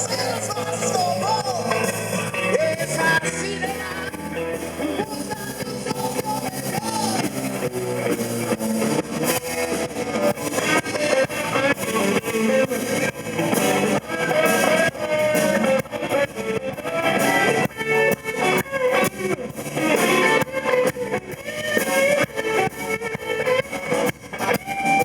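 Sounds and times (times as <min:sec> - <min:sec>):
blues band playing: 0:00.0 - 0:25.0
guitar: 0:00.0 - 0:25.0.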